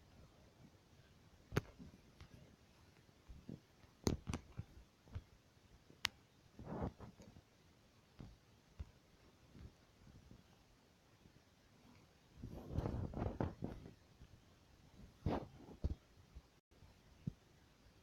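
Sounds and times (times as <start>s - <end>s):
soft rustle: 0.0s - 17.4s
faint clicks and taps: 0.1s - 16.6s.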